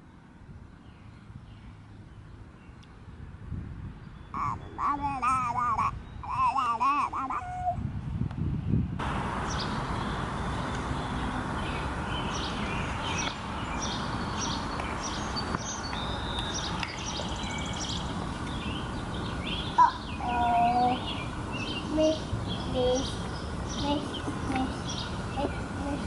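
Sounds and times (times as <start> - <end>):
songbirds chirping: 0.0 - 7.8, 8.5 - 26.0.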